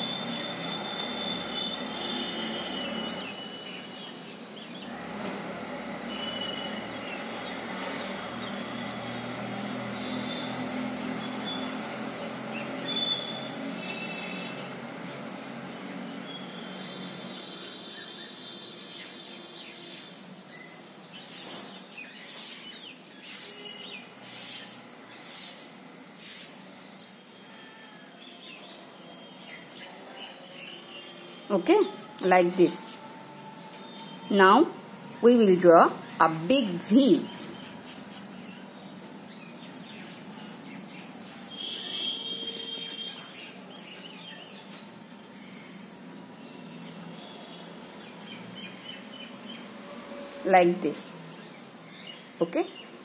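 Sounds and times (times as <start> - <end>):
birds chirping faintly: 0.0 - 53.0.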